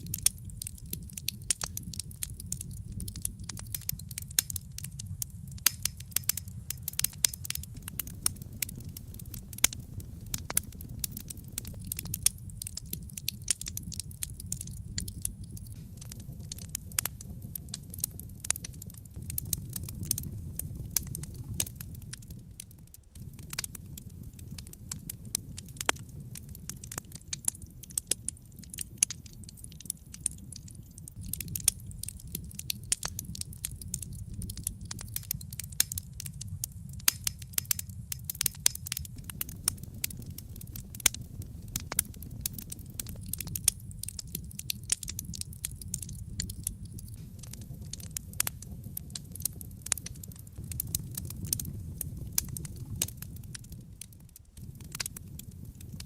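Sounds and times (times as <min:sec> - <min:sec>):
burning logs crackling and popping: 0:00.0 - 0:56.0
low rumble of flames: 0:00.0 - 0:56.0.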